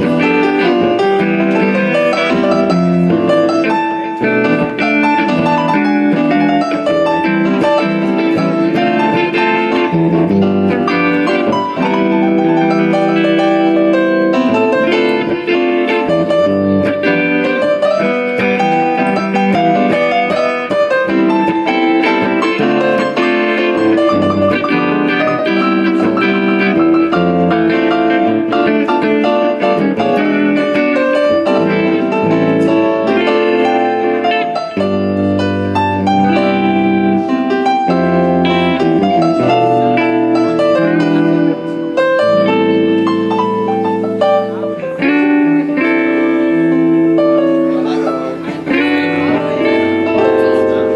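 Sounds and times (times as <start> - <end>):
electric guitar: 0.0 - 50.9
keyboard piano chords: 0.0 - 50.9.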